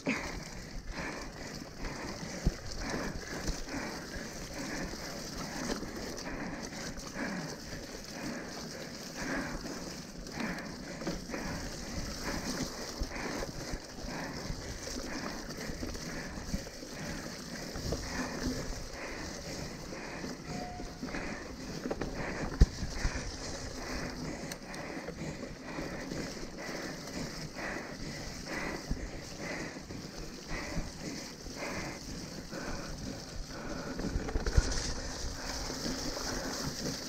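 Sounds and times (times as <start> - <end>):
bike rattling over bumps: 0.0 - 37.0.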